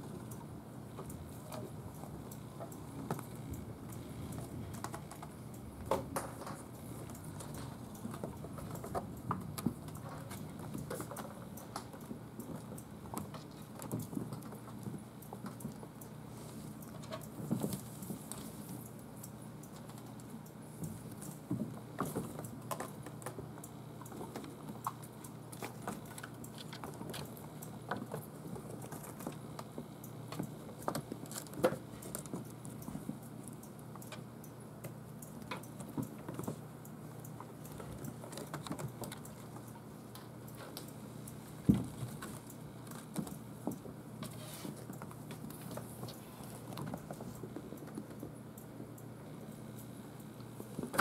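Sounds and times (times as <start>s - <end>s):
kittens' paws tapping and scuffling: 0.0s - 51.0s.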